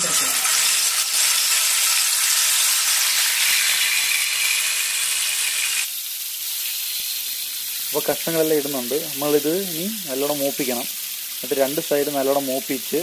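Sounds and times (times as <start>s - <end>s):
fish sizzling in hot oil: 0.0s - 13.0s.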